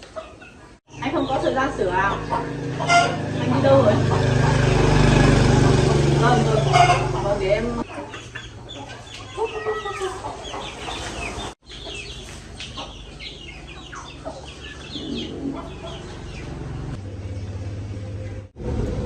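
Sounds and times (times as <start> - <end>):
chickens clucking: 0.0 - 17.5.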